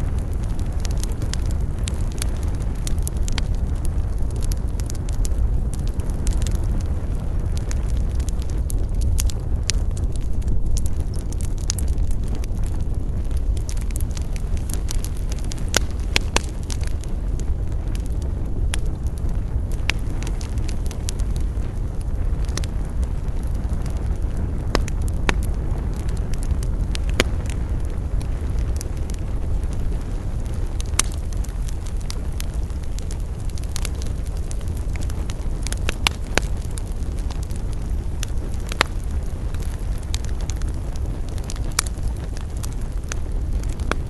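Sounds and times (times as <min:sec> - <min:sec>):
burning wood crackling and popping: 0:00.0 - 0:44.0
campfire flames rumbling: 0:00.0 - 0:44.0.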